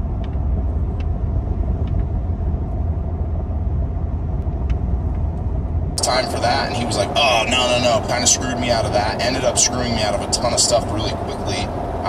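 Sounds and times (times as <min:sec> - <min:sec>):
faint steady hum: 0:00.0 - 0:12.0
road and engine rumble: 0:00.0 - 0:12.0.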